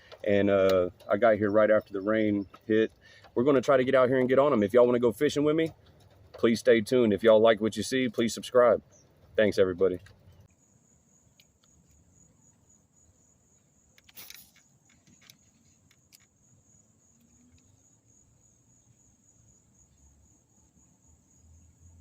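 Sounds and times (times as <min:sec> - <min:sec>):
crickets trilling: 0:00.0 - 0:09.5, 0:10.3 - 0:22.0.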